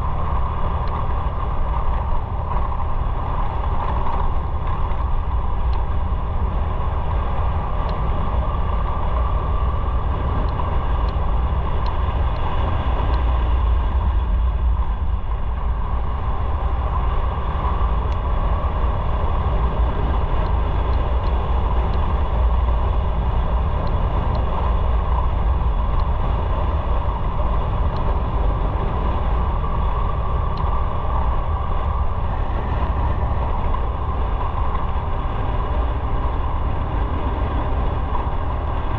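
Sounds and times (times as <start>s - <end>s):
deep rumbling wind noise: 0.0s - 38.9s
motorcycle engine drone: 0.0s - 38.9s.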